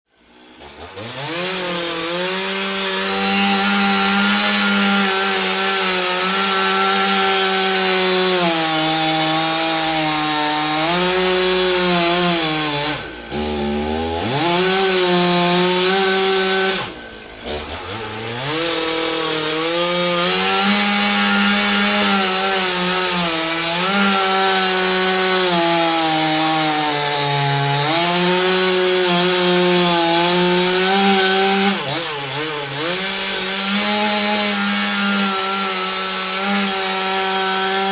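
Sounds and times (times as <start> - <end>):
chainsaw revving: 0.1 - 37.9.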